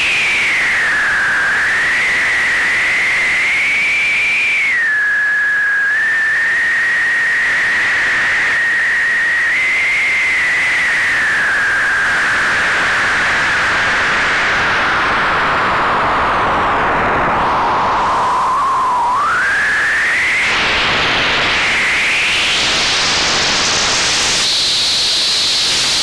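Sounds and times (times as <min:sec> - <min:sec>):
loud white noise hiss: 0:00.0 - 0:26.0.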